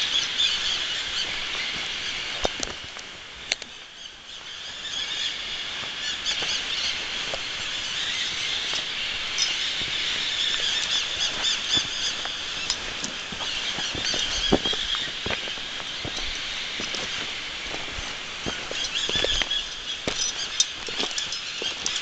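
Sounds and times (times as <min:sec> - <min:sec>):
high-pitched wildlife chorus: 0:00.0 - 0:22.0.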